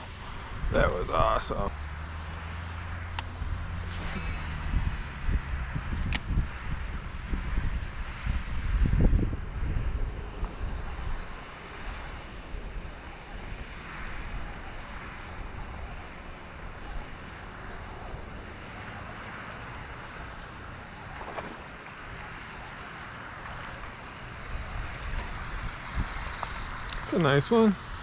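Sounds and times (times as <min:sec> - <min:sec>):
wind buffeting microphone: 0:00.0 - 0:28.0
wind hissing over water: 0:00.0 - 0:28.0.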